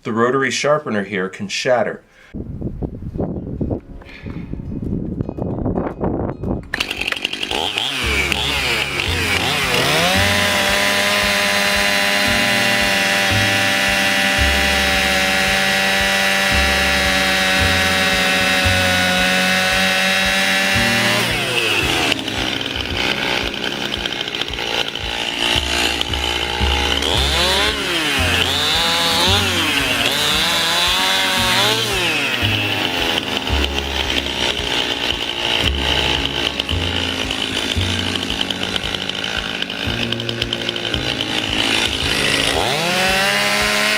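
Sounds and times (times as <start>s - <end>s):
chainsaw revving: 6.7s - 43.9s.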